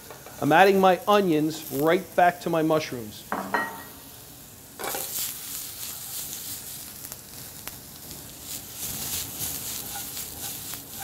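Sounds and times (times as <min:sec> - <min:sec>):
mushrooms sizzling in pan: 0:00.0 - 0:11.0.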